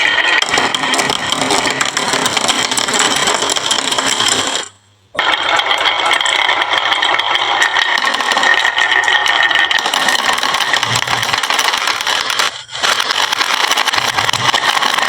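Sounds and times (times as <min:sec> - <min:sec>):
marbles rattling down a track: 0:00.0 - 0:15.0.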